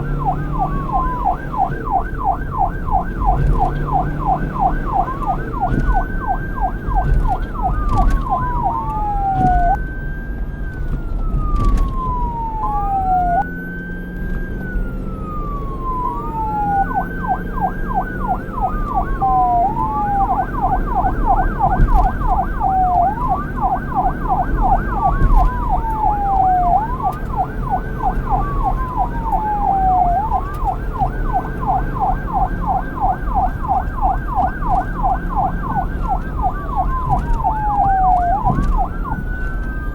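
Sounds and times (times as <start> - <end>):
police siren wail and yelp: 0.0 - 39.9.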